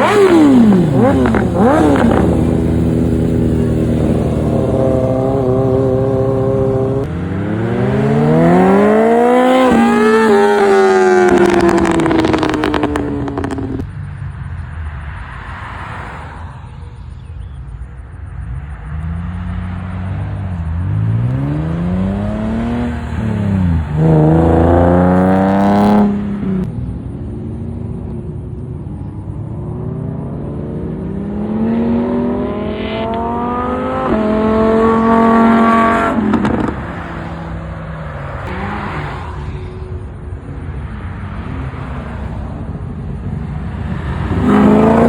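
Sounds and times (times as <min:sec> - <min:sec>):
car engine revving: 0:00.0 - 0:13.9, 0:18.6 - 0:26.7, 0:28.0 - 0:39.8, 0:41.0 - 0:45.0.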